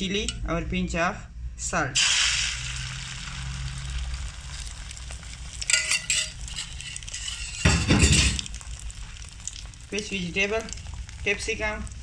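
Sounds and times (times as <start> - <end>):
batter sizzling in a frying pan: 2.0 - 12.0.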